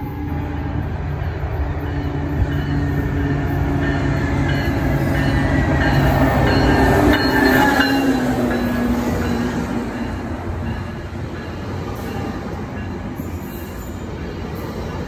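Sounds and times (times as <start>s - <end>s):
diesel locomotive engine drone: 0.0s - 15.0s
train wheels rumbling: 0.0s - 15.0s.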